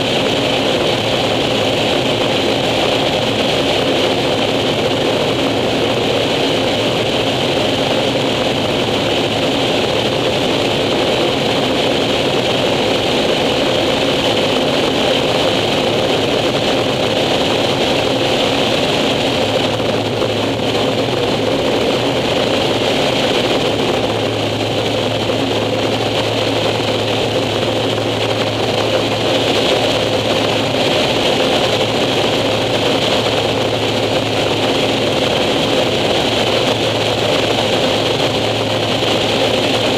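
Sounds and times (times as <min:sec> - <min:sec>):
turboprop engine in flight: 0:00.0 - 0:39.9.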